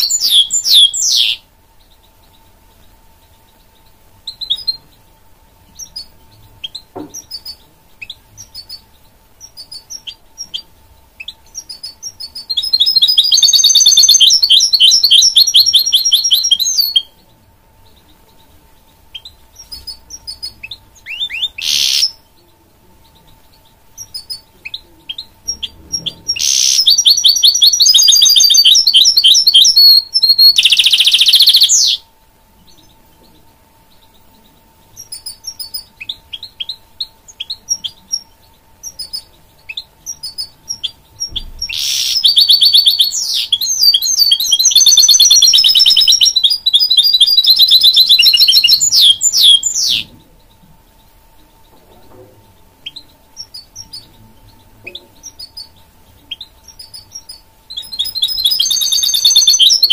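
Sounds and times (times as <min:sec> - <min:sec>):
bird chirping and warbling: 0:00.0 - 0:32.0, 0:32.6 - 0:59.9.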